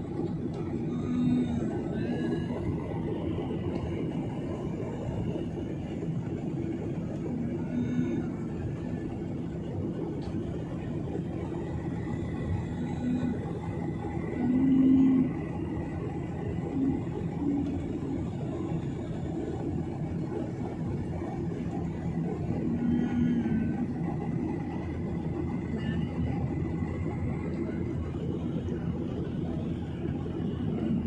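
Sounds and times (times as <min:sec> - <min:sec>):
jet airliner cabin drone: 0:00.0 - 0:31.0.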